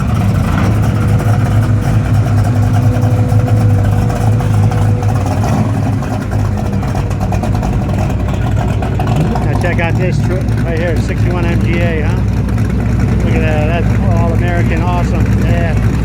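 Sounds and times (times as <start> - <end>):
steady high tone: 0.0 - 15.9
car engine idling: 0.0 - 16.0.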